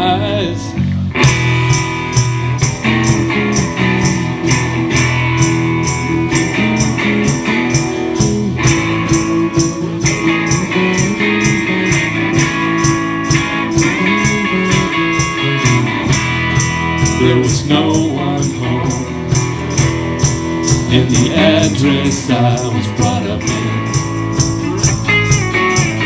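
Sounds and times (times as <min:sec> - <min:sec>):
guitar strumming: 0:00.0 - 0:26.0
moving bass notes: 0:00.0 - 0:26.0.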